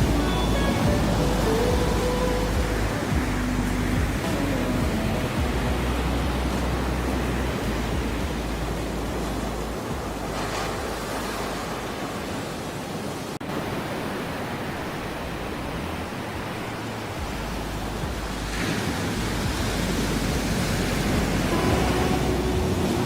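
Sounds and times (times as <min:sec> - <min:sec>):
ocean waves washing on shore: 0:00.0 - 0:23.0.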